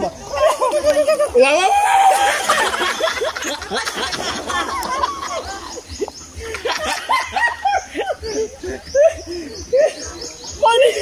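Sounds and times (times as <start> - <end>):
men laughing: 0.0 - 11.0.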